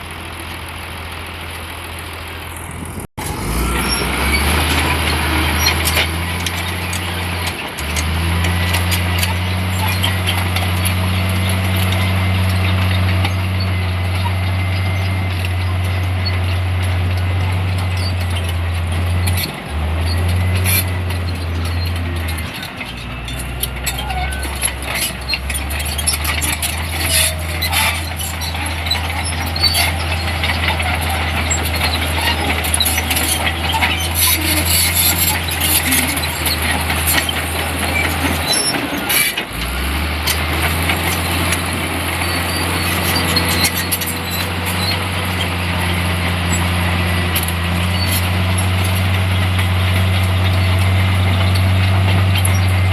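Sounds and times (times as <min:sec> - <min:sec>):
diesel engine under load: 0:00.0 - 0:52.9
machinery knocks and clanks: 0:02.8 - 0:52.9.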